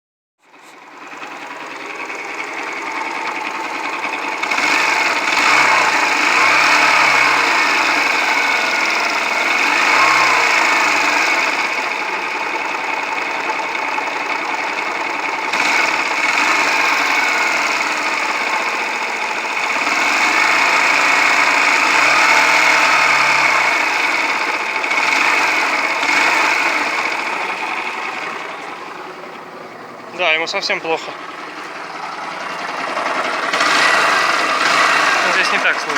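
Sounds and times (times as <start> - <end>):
motorcycle engine knocking and revving: 0.4 - 35.9.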